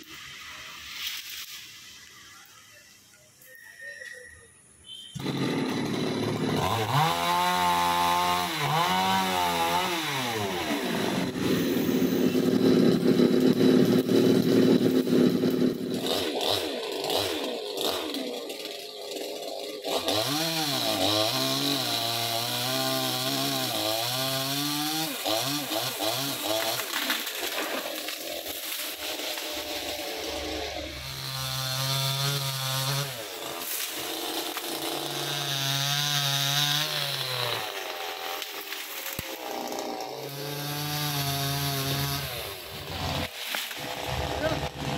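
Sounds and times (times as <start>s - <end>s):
chainsaw engine revving: 5.2s - 44.9s.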